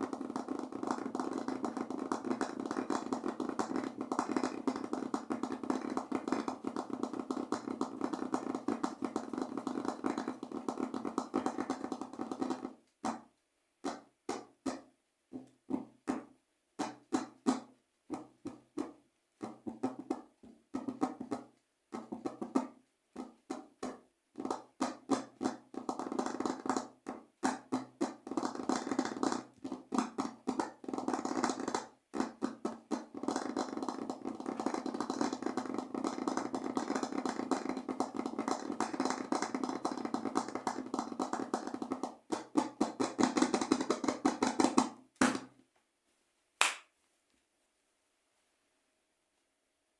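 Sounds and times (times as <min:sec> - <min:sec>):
fingers drumming on a surface: 0:00.0 - 0:45.5.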